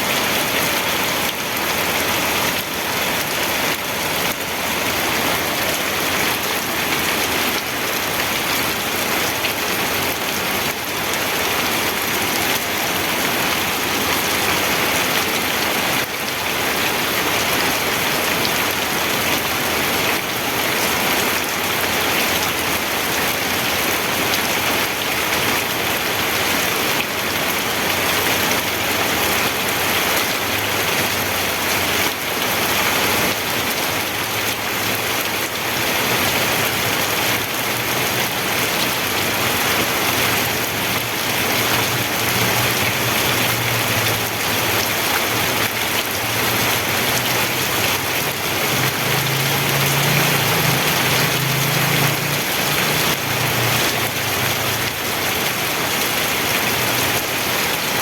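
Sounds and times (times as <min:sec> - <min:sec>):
steady rainfall on a surface: 0:00.0 - 0:58.0.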